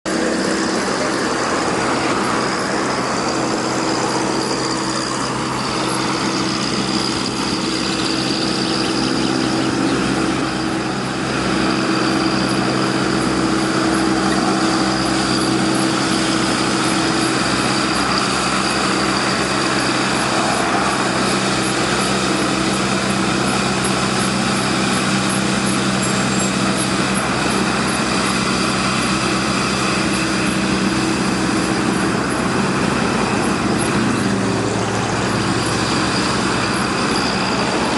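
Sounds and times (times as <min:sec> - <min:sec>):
mechanical hum with low tones: 0:00.1 - 0:37.9.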